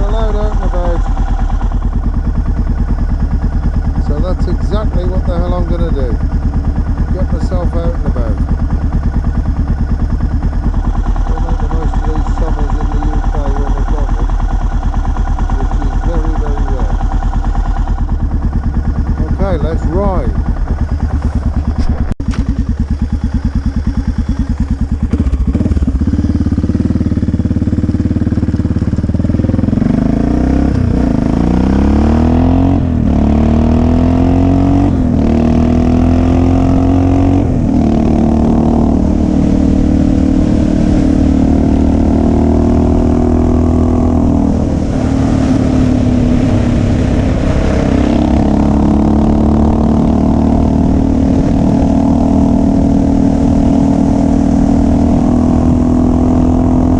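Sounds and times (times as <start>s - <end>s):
motorcycle accelerating through gears: 0.0s - 56.9s
motorcycle engine idling: 0.0s - 56.9s.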